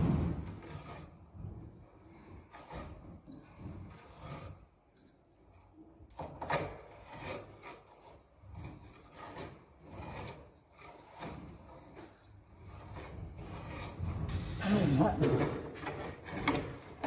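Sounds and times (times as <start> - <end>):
auger scraping wood: 0.0 - 17.0.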